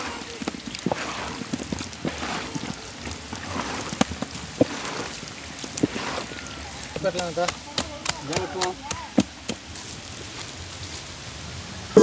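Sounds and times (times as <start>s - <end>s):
wet squishing of fish marinade: 0.0s - 11.0s.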